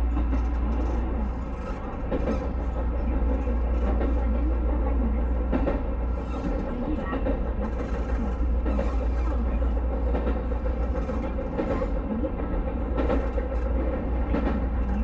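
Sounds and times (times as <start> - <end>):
electric train low rumble: 0.0 - 15.0.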